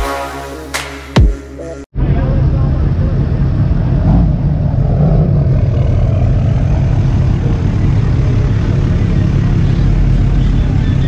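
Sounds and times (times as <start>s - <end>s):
vehicle engine droning: 1.7s - 11.0s.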